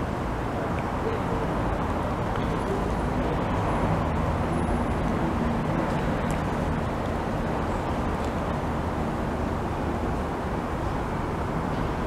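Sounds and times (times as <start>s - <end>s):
railway platform background rumble: 0.0s - 12.0s.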